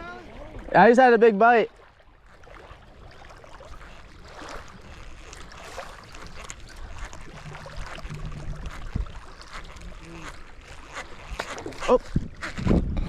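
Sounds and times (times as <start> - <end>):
water lapping and splashing: 0.0 - 13.0.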